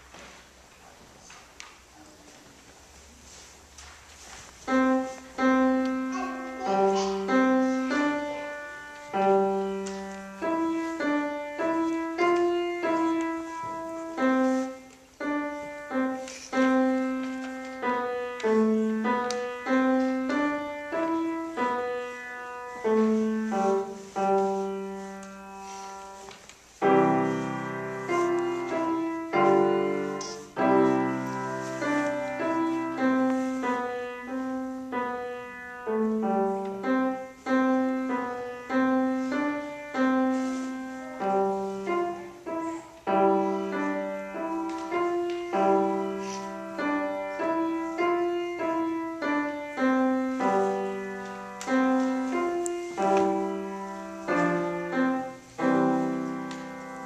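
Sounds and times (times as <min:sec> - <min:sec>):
solo grand piano: 0:00.0 - 0:57.0.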